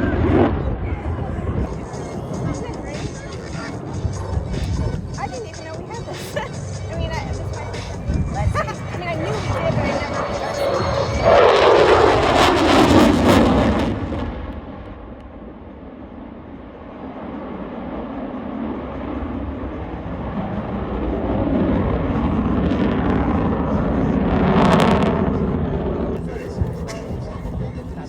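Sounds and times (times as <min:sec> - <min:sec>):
jet engine flying past: 0:00.0 - 0:28.0.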